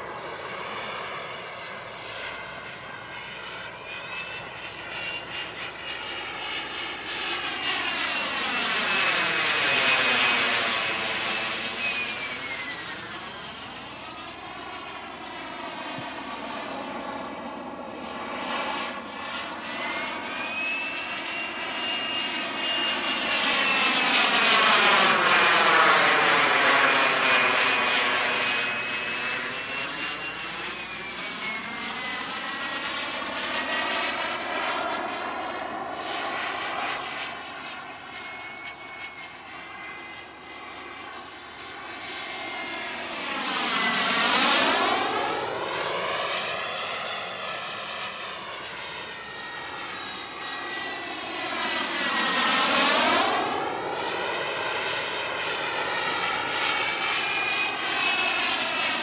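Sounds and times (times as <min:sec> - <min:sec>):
model jet turbine whining: 0:00.0 - 0:59.0.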